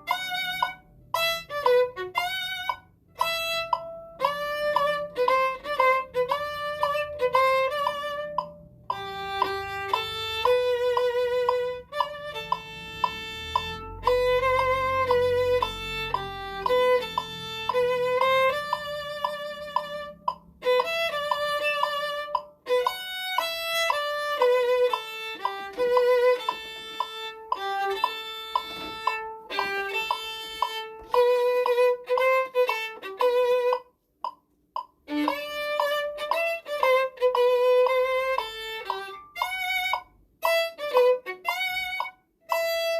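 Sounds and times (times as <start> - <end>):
violin melody with vibrato: 0.0 - 33.9, 35.0 - 42.9.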